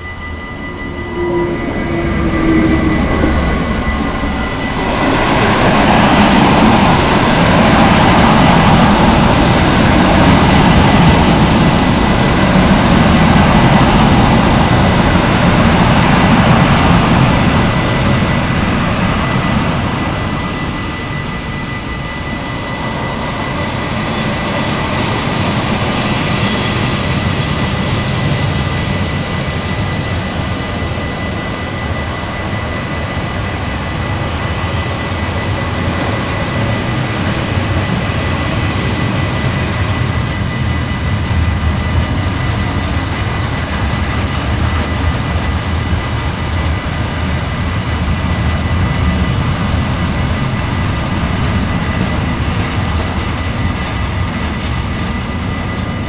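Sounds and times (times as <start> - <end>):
electric locomotive passing: 0.0 - 56.0
high-pitched wheel squeal: 0.0 - 56.0
train wheels rumbling on rail: 0.0 - 56.0.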